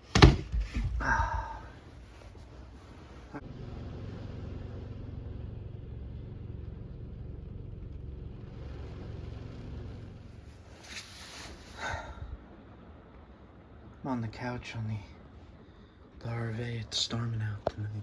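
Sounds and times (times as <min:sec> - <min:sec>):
storm wind buffeting vehicle: 0:00.5 - 0:18.0.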